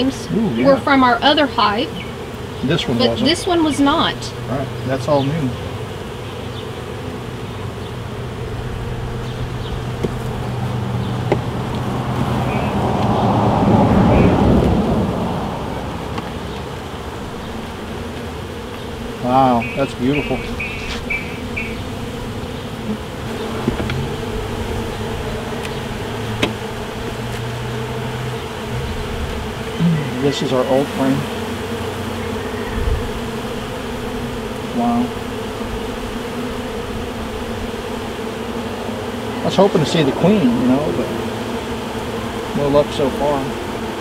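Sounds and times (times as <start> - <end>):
honeybees buzzing: 0.0 - 44.0.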